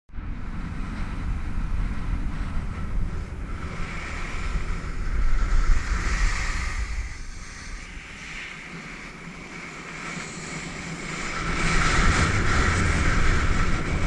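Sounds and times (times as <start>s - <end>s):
wind buffeting microphone: 0.1s - 14.0s
skis sliding on snow: 0.6s - 14.0s.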